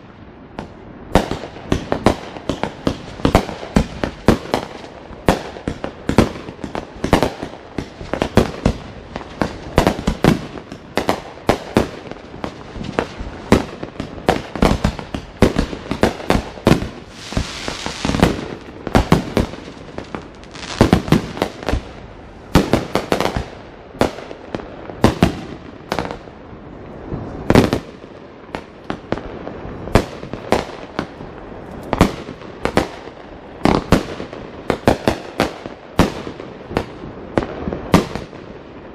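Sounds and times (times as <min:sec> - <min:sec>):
fireworks bangs and pops: 0:00.6 - 0:26.4, 0:27.0 - 0:38.9
fireworks hissing crackle: 0:01.2 - 0:34.9.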